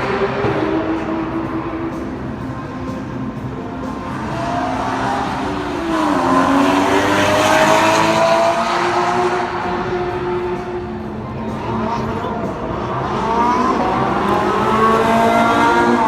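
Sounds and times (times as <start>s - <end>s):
supercar engine accelerating: 0.0s - 16.0s.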